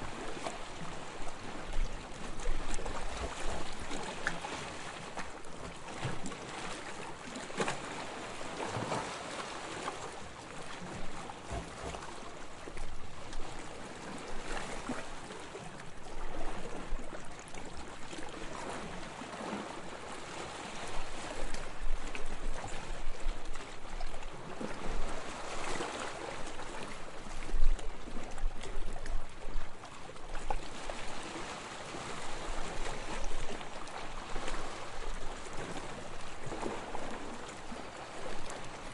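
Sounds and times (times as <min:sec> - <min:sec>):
water lapping and splashing: 0:00.0 - 0:38.9.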